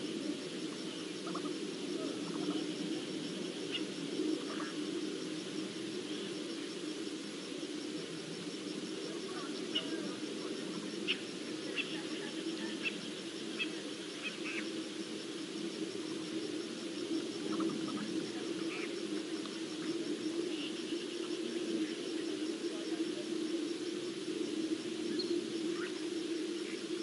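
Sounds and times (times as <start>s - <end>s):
faint insect chirping: 0.0s - 27.0s.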